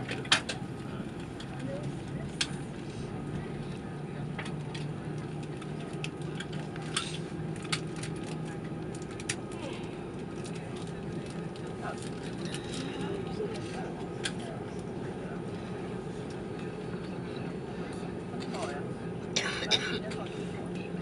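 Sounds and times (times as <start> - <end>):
airliner cabin hum: 0.0 - 21.0
faint passenger voices: 0.0 - 21.0.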